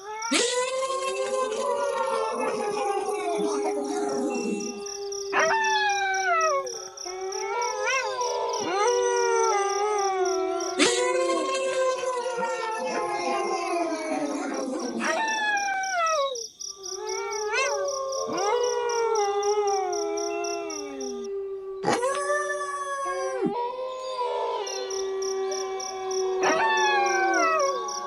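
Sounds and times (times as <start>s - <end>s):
wolves howling: 0.0s - 28.0s.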